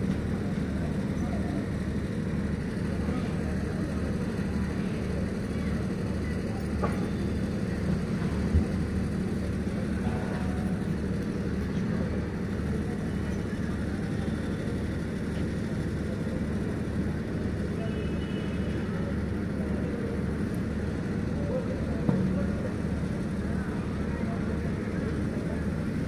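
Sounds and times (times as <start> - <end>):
low machine hum with throb: 0.0 - 26.0.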